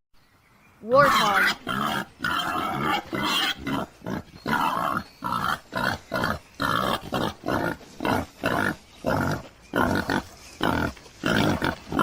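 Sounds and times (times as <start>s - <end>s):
warthog grunting: 1.0s - 12.0s.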